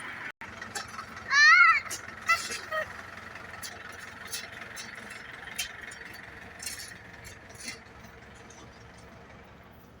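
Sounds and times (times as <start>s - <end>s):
outdoor background hum: 0.0s - 10.0s.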